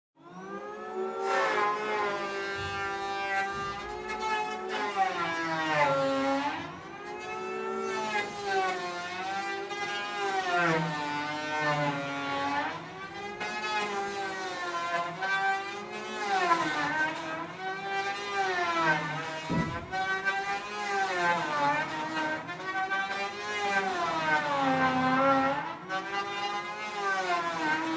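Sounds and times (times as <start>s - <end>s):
electric hand planer whining: 0.3s - 27.9s.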